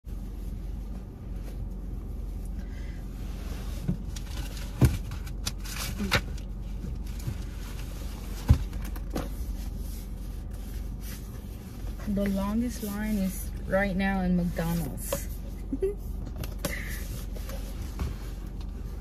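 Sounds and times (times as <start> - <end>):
car engine idling hum: 0.0 - 19.0.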